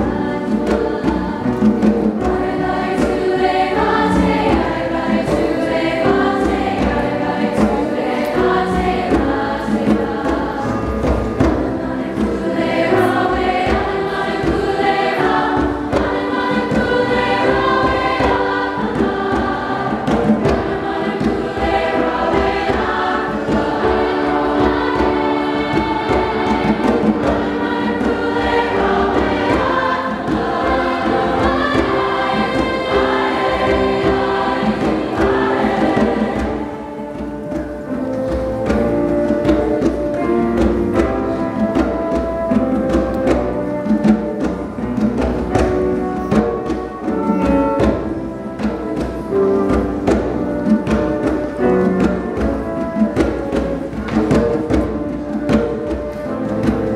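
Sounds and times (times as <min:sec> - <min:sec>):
choir singing in parts: 0:00.0 - 0:56.9.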